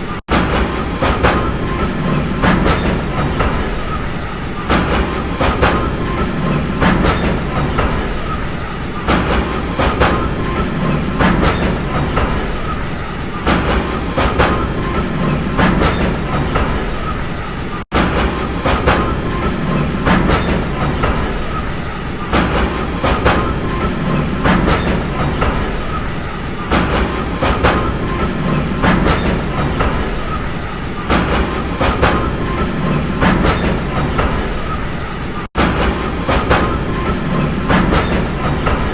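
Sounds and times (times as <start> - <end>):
train rumbling on track: 0.0 - 38.9
wheels clicking over rail joints: 0.0 - 38.9.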